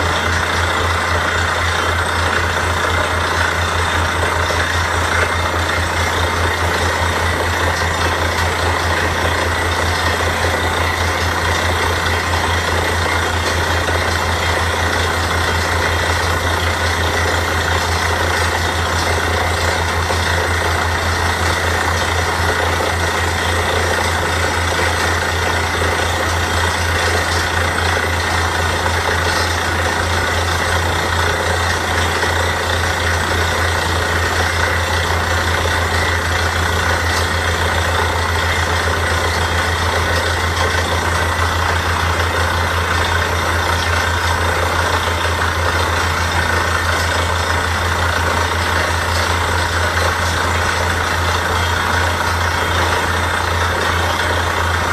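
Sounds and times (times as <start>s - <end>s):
drilling rig engine running: 0.0s - 54.9s.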